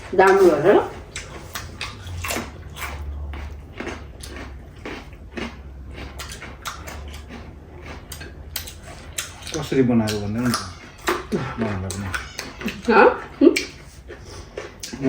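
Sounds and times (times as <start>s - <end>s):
low steady hum: 0.0s - 15.0s
chewing and mouth smacks: 0.3s - 15.0s.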